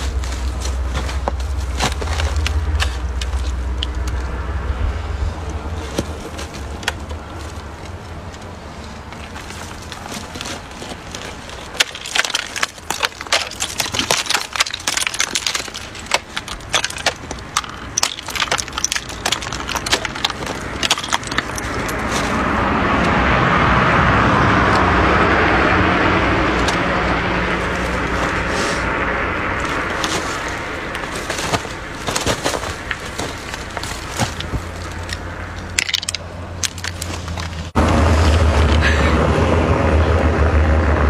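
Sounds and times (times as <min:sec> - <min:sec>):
icicles snapping and cracking: 0:00.0 - 0:04.4, 0:05.8 - 0:23.2, 0:26.4 - 0:37.8.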